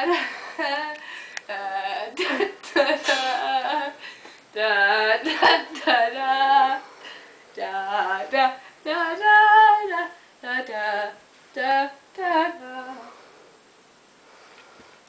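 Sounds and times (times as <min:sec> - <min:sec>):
woman singing wordless tune: 0:00.0 - 0:13.3.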